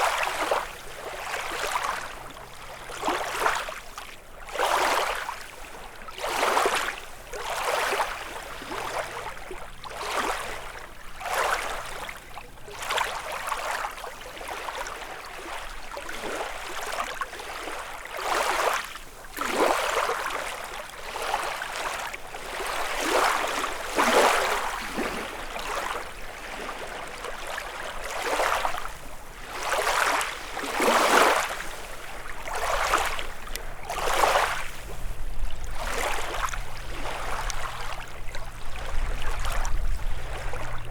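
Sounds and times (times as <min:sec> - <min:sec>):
lake waves lapping on shore: 0:00.0 - 0:40.9.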